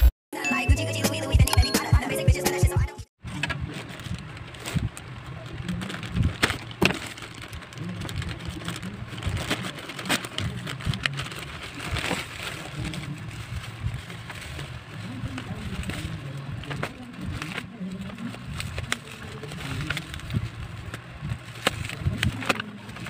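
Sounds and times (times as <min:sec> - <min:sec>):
plastic mailer and bubble wrap crinkling: 0:03.2 - 0:23.0
plastic tearing: 0:03.3 - 0:23.0.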